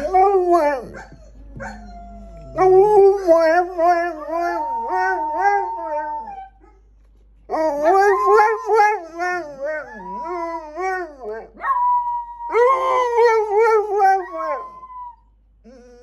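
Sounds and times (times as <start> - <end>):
dogs howling: 0.0 - 6.6, 7.5 - 15.3.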